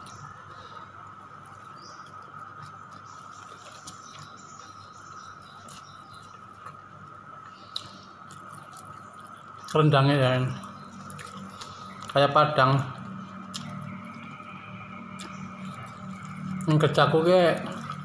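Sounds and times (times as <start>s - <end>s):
person chewing: 0.0s - 9.8s, 10.5s - 12.2s, 13.0s - 16.7s, 17.6s - 18.0s
faint steady whine: 0.0s - 18.0s.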